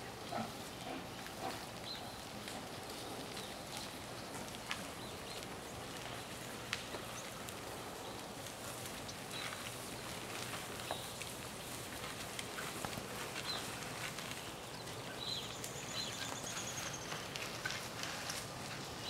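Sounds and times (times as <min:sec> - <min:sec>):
antlers raking brush: 0:00.0 - 0:19.0
rustling grass: 0:00.0 - 0:19.0
soft hoof steps: 0:00.0 - 0:19.0.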